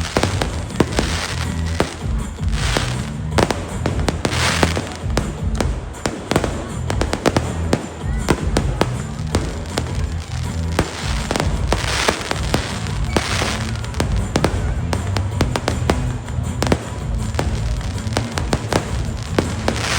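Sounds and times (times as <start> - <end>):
fireworks bangs: 0.0 - 19.9
fireworks hissing crackle: 0.0 - 19.9
music playing: 0.0 - 19.9.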